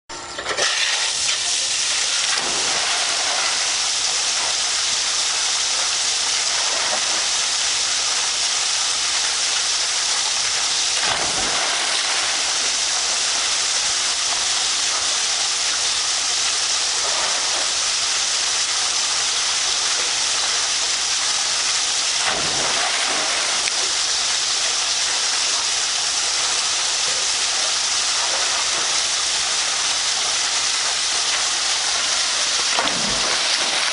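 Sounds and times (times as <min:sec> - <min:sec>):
water splashing into pool: 0:00.6 - 0:33.9.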